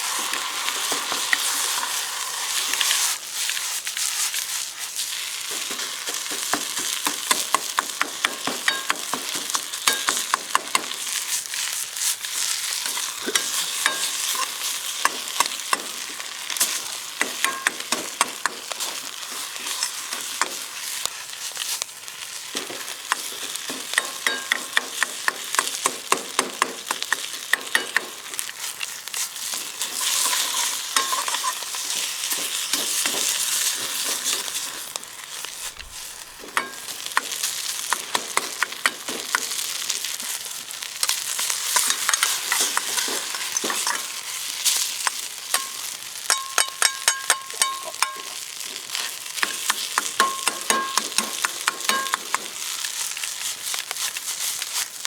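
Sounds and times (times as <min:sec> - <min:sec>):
rice sizzling in a wok: 0:00.0 - 0:55.0
utensil scraping a wok: 0:00.0 - 0:55.0.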